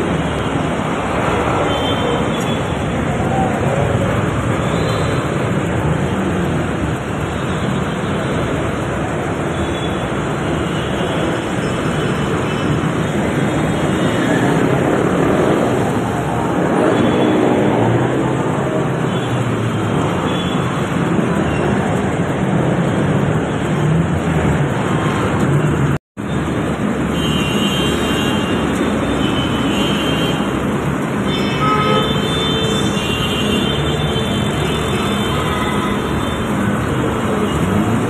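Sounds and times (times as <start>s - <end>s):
motorcycle and car engines: 0.0s - 31.7s, 32.7s - 38.0s.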